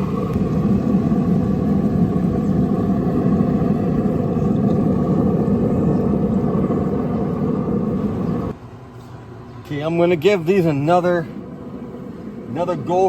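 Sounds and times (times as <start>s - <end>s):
loud low rumble: 0.0s - 8.6s, 10.6s - 13.0s
constant hum: 0.0s - 13.0s.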